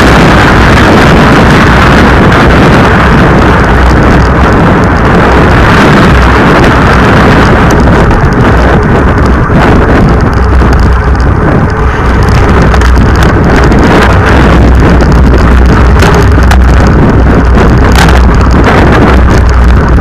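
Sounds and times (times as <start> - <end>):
road noise: 0.0 - 20.0
wind buffeting microphone: 0.0 - 20.0.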